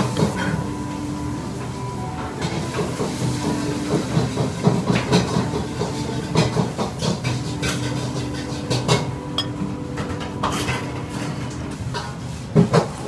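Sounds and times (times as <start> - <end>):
steady restaurant hum: 0.0 - 13.0.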